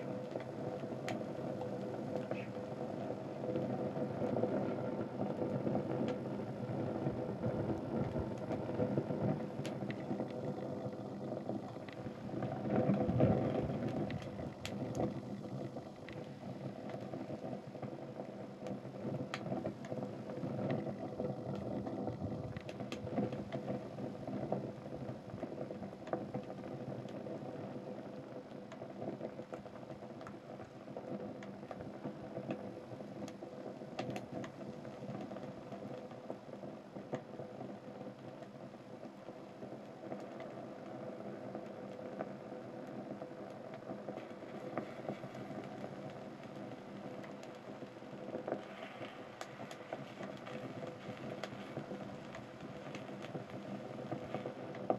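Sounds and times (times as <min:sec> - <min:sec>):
fire crackling with pops: 0:00.0 - 0:54.9.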